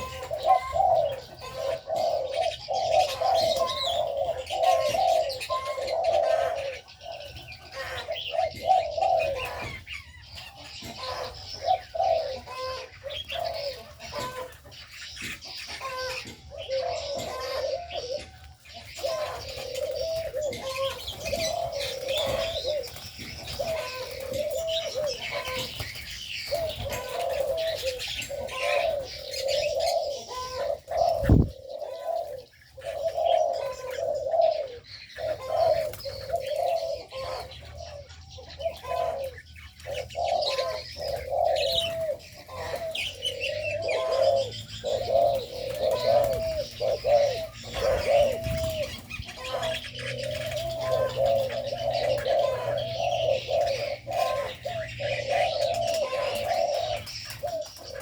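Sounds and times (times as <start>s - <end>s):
doves cooing: 0.0s - 58.0s
small birds chirping faintly: 0.0s - 58.0s.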